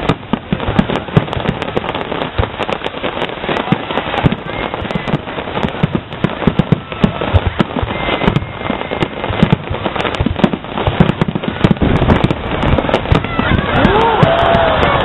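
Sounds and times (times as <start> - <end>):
fireworks crackling and popping: 0.0 - 15.0
rumble of explosions: 0.0 - 15.0.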